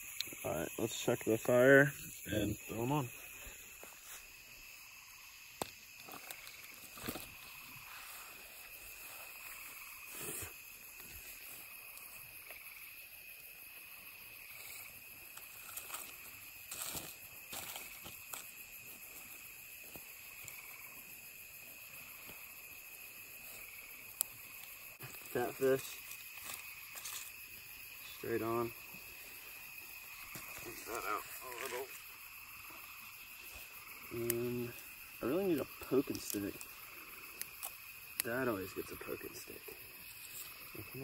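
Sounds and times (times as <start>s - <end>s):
insect chorus at night: 0.0s - 41.0s.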